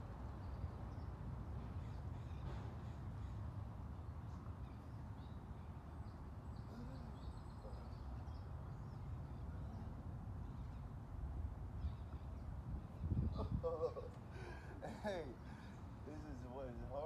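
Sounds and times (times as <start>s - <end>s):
birds chirping and calling: 0.4s - 17.0s.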